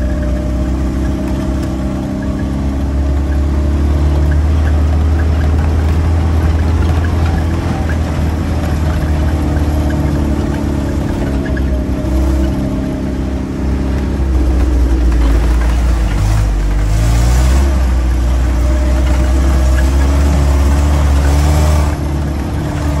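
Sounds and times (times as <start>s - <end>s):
car engine pulling on rough track: 0.0s - 23.0s.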